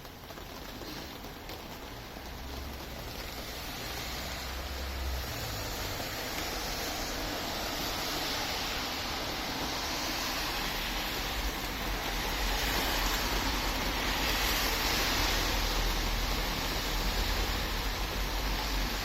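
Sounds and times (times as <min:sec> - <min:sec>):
stormy weather rushing: 0:00.0 - 0:19.0.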